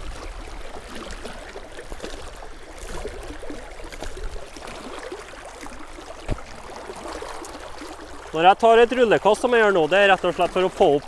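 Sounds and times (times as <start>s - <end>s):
river current rushing and gurgling: 0.0s - 11.0s
small water splashes: 0.0s - 11.0s.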